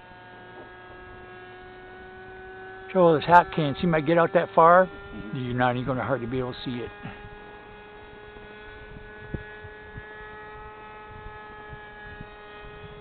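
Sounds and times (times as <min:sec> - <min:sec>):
steady hum with overtones: 0:00.0 - 0:13.0.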